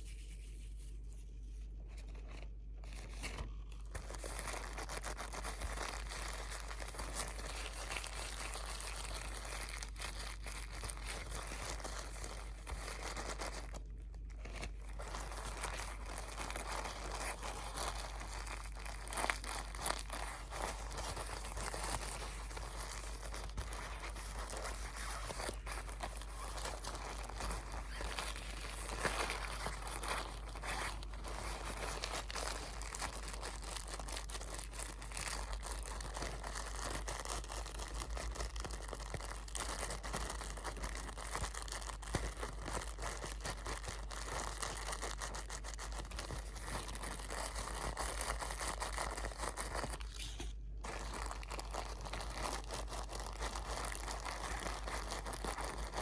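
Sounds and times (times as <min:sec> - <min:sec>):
crinkly material crumpling: 0:00.0 - 0:56.0.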